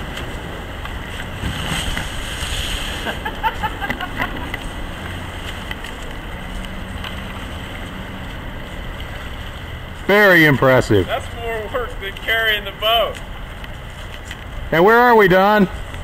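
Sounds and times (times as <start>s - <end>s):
canoe scraping over grass: 0.0s - 13.0s.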